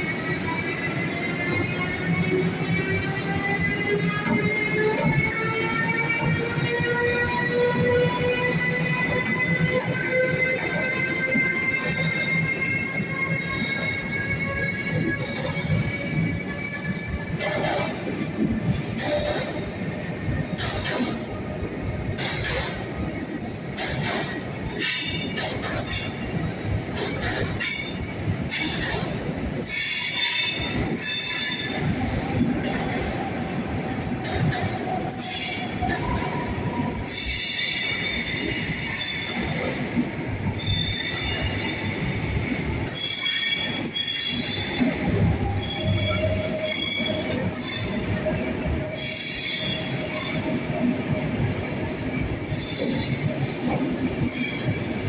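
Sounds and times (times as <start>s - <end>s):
train rumble: 0.0s - 55.0s
train wheels squealing on rails: 0.0s - 55.0s.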